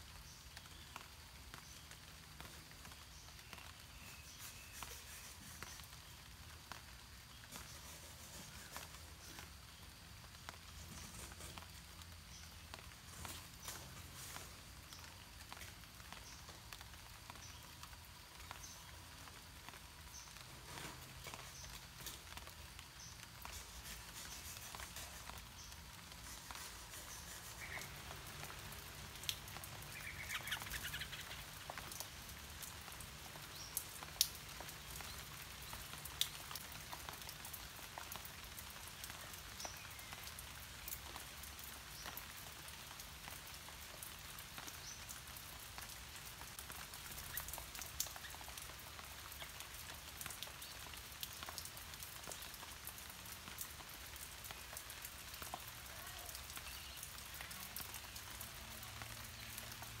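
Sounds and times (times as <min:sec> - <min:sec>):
rain falling on leaves: 0:00.0 - 1:00.0.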